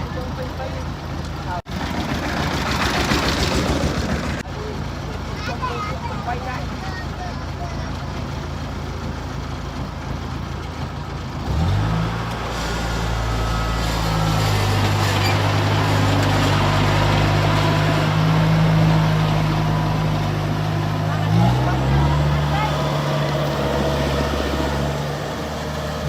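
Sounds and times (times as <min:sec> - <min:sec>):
harvester engine running: 0:00.0 - 0:26.0.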